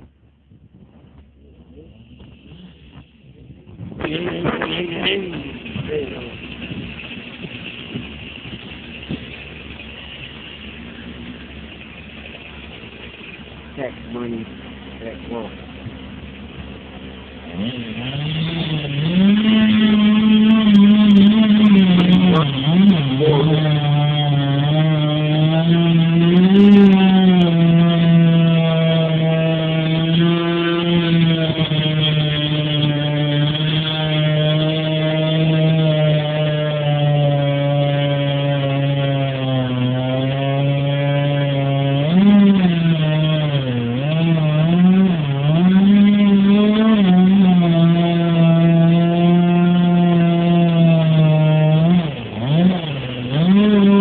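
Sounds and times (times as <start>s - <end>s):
chainsaw running at high revs: 1.7s - 54.0s.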